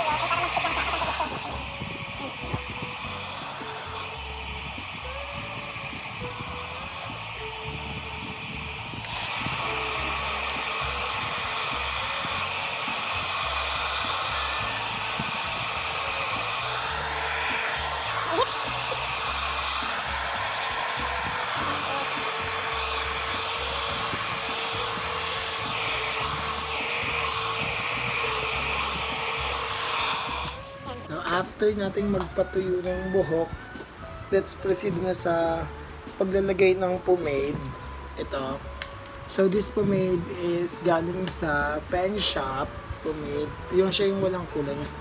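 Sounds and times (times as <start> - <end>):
hair dryer running: 0.0 - 45.0.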